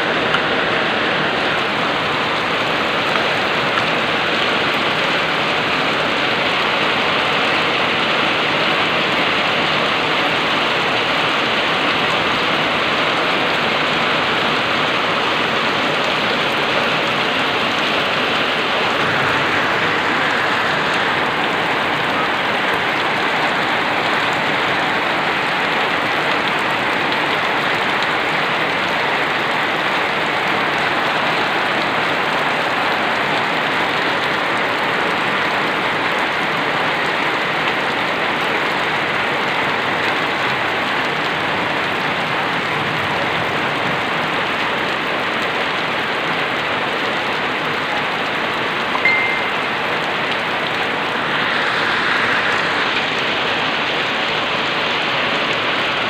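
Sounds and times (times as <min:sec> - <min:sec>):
heavy rain on wet road: 0:00.0 - 0:56.0.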